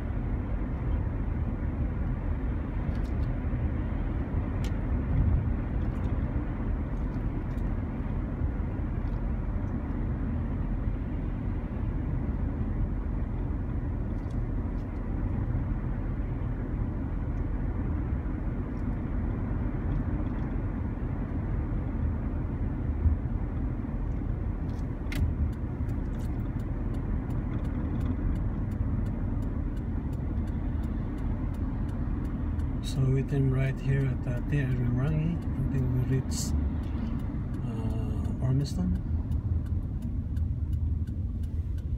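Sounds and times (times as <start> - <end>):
road and engine rumble in car: 0.0 - 41.9
turn signal ticking: 0.0 - 41.9.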